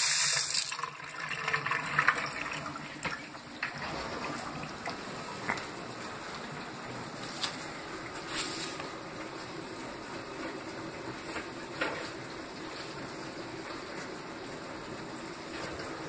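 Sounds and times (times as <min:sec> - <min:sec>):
water running from tap: 0:00.0 - 0:16.0.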